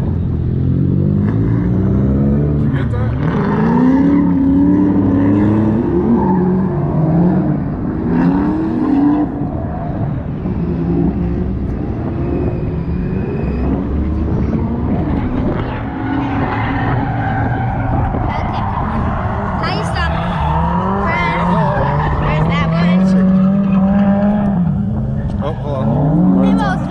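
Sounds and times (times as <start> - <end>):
car engines revving hard: 0.0 - 26.9.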